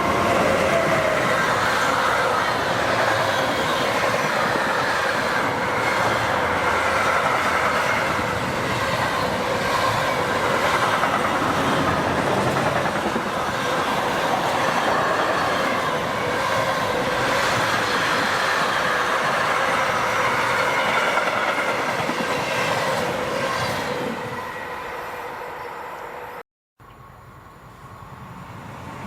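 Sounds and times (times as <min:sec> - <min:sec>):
train wheels on rails: 0:00.0 - 0:26.2.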